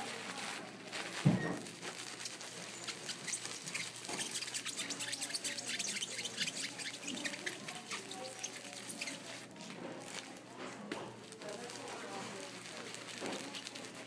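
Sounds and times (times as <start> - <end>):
wet felt crackling when squeezed: 0.0 - 10.4, 11.4 - 14.0.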